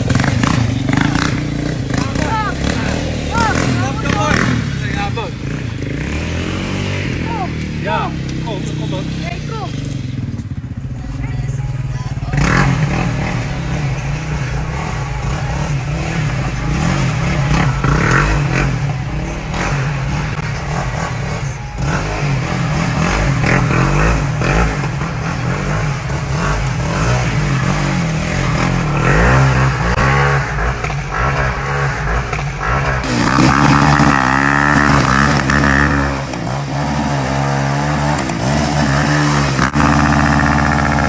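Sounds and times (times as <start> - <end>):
quad bike engine revving: 0.0 - 11.0, 11.7 - 41.0.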